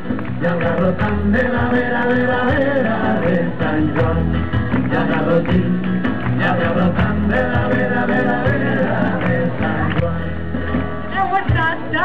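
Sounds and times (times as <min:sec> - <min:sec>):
bass and beat: 0:00.0 - 0:12.0
electric and acoustic guitars: 0:00.0 - 0:12.0
group singing: 0:00.2 - 0:10.8.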